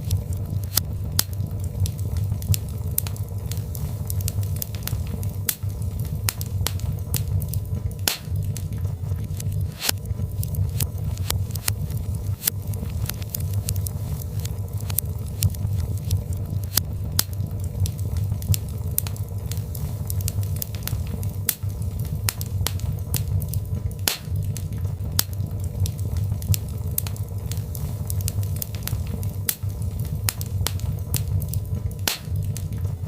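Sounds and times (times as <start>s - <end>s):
logs crackling and popping: 0.0s - 33.0s
low rumble of flames: 0.0s - 33.0s.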